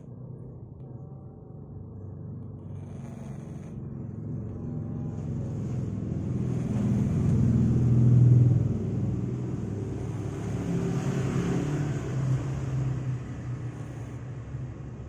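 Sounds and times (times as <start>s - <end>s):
cat snoring: 0.0s - 15.0s.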